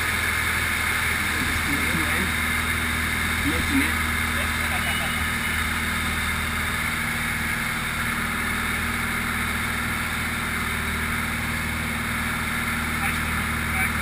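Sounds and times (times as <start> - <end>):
aircraft engine and propeller drone: 0.0 - 14.0.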